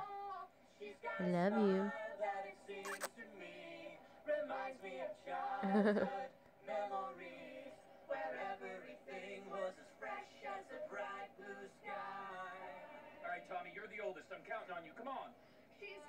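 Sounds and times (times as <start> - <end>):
voices singing on television: 0.0 - 16.0.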